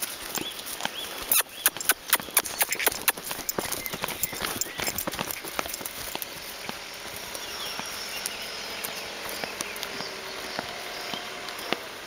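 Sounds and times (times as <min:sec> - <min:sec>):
horse hooves on muddy ground: 0:00.0 - 0:12.0
outdoor background noise: 0:00.0 - 0:12.0.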